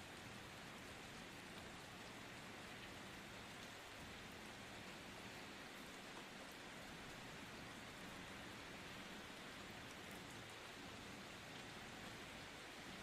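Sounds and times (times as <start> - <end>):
quiet rain hiss: 0.0 - 13.0
faint raindrop ticks: 0.1 - 13.0.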